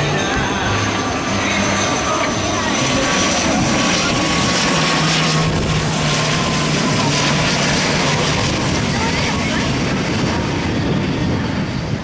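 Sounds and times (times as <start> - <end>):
aircraft engines passing low: 0.0 - 12.0.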